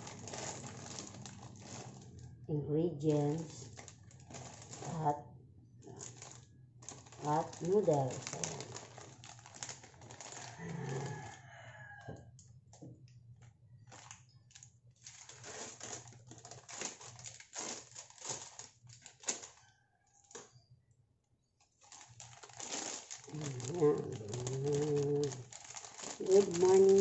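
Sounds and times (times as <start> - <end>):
plastic packet crinkling: 0.0 - 2.4, 3.3 - 5.1, 5.8 - 11.9, 13.8 - 20.5, 21.8 - 27.0.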